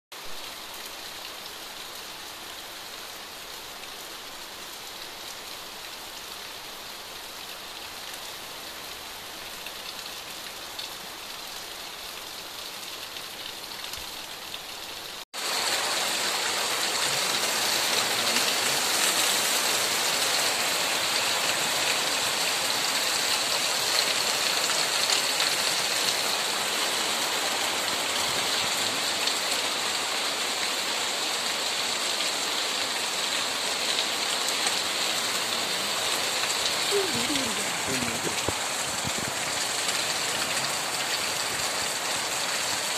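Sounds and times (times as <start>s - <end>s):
heavy rain on foliage and roofs: 0.1s - 42.9s.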